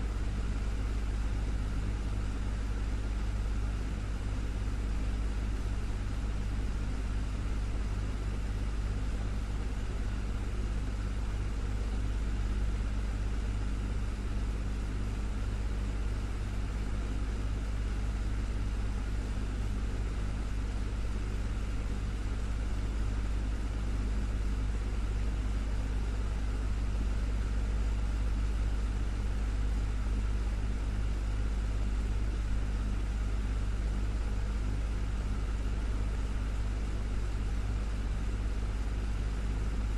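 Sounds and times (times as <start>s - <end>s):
desktop fan humming: 0.0s - 39.9s.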